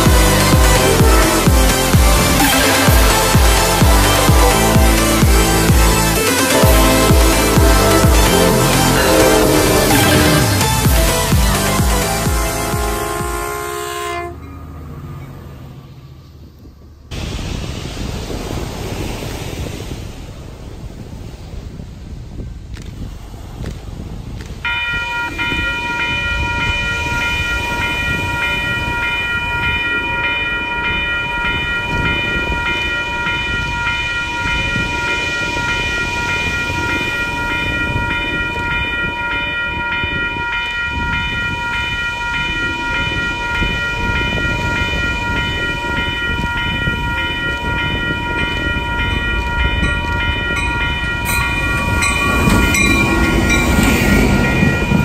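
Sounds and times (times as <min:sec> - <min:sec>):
railroad crossing bell ringing: 0:00.0 - 0:15.6, 0:24.6 - 0:55.0
train rumbling: 0:00.0 - 0:55.0.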